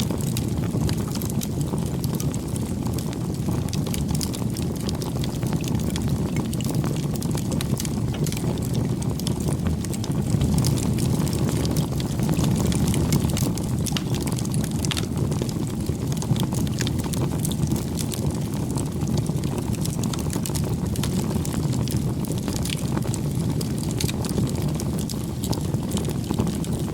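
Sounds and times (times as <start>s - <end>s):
campfire rumble: 0.0s - 26.9s
wood crackling and popping: 0.0s - 26.9s.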